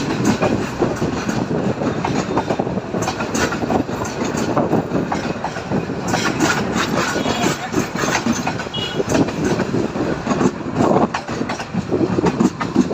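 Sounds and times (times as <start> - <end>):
train wheels rattling: 0.0 - 12.9
wheels clacking over track: 0.0 - 12.9.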